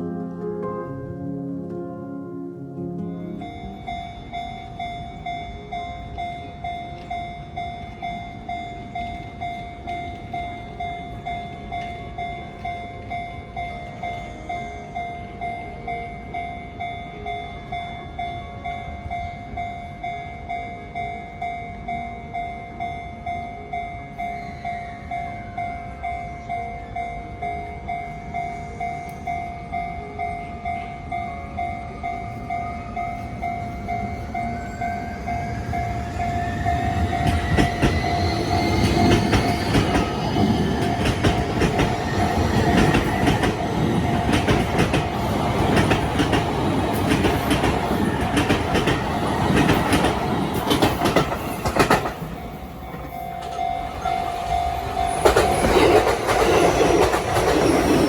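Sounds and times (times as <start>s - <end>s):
level-crossing bell clanging: 3.0s - 58.0s.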